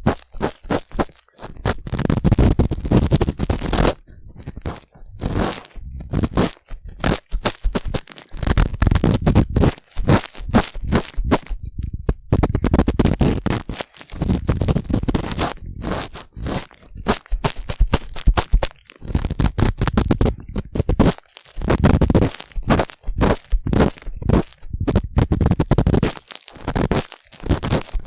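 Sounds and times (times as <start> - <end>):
cotton swab scraping microphone: 0.0 - 28.0.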